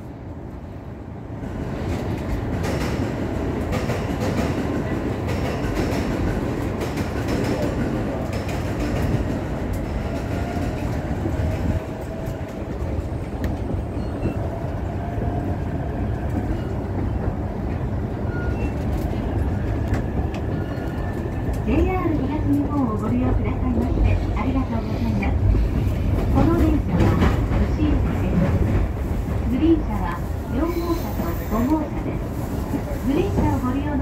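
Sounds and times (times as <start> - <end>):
wheels rumbling on rail: 0.0 - 34.0
rail joint clicks: 1.7 - 34.0.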